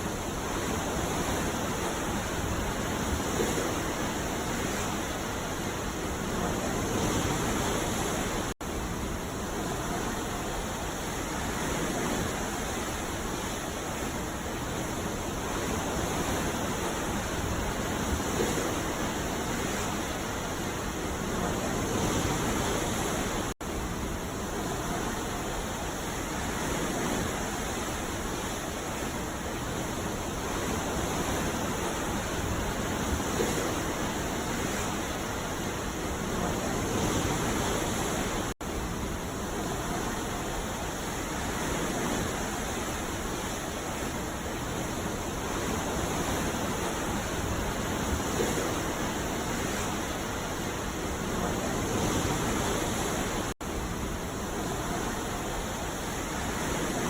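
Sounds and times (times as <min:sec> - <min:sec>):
waves breaking on a beach: 0:00.0 - 0:57.0.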